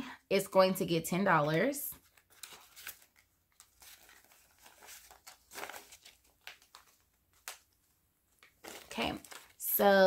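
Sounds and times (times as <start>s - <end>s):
banknotes rustling: 1.4s - 10.0s.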